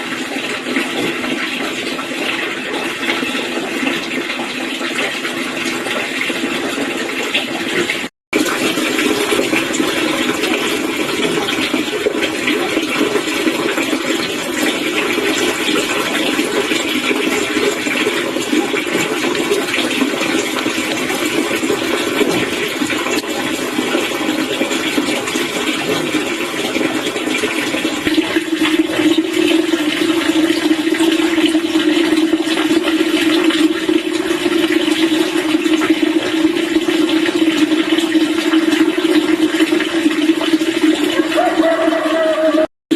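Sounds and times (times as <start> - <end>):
rushing water-like noise: 0.0 - 35.6, 39.1 - 42.7.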